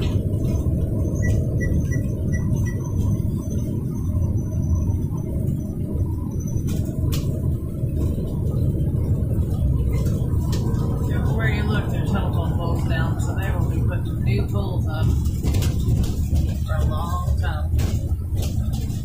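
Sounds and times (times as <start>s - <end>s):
road and engine rumble in vehicle: 0.0s - 19.0s.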